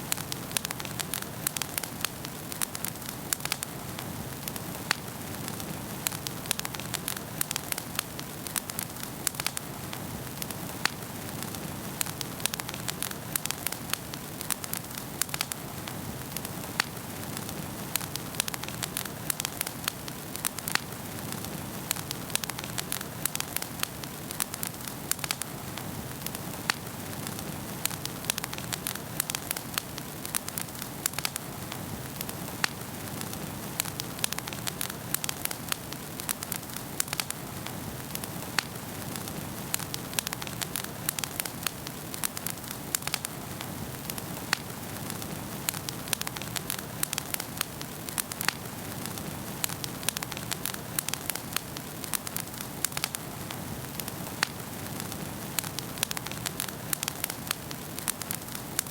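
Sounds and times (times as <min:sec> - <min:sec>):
fire crackling and popping: 0:00.0 - 0:58.9
low rush of flames: 0:00.1 - 0:58.9.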